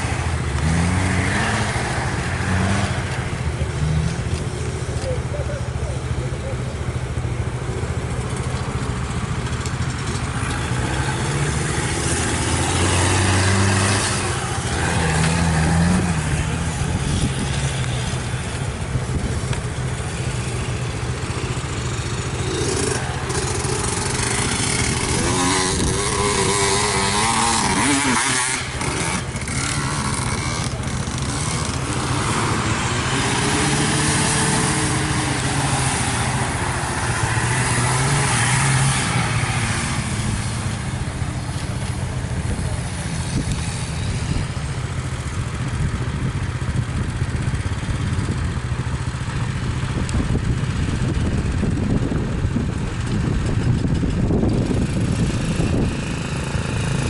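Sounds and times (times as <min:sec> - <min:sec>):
jeep and motorcycle engines: 0:00.0 - 0:57.0
vehicles passing by: 0:00.0 - 0:57.0.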